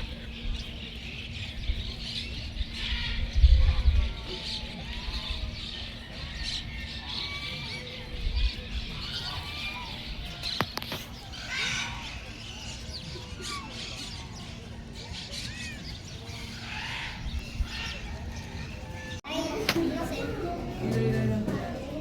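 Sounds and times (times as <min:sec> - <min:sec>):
birds chirping and twittering: 0:00.0 - 0:22.0
faint distant voices: 0:00.0 - 0:22.0.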